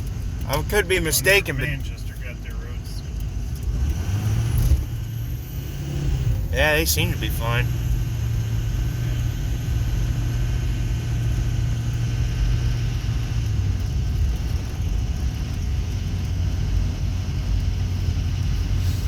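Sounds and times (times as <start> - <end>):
car engine and tyres droning: 0.0 - 19.0.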